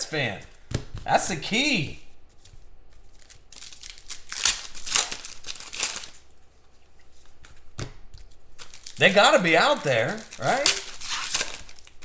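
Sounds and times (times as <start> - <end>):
trading cards rustling and sliding: 2.3 - 12.0.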